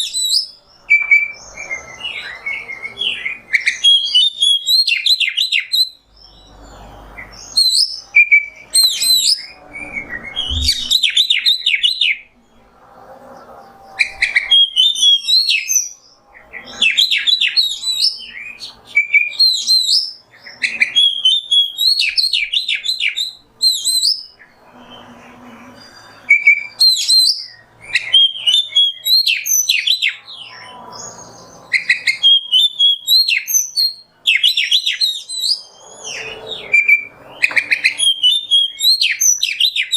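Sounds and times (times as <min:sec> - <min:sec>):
bird singing whistled phrases: 0:00.0 - 0:06.5, 0:07.4 - 0:12.2, 0:14.0 - 0:16.0, 0:16.7 - 0:24.4, 0:25.9 - 0:30.7, 0:31.7 - 0:39.9.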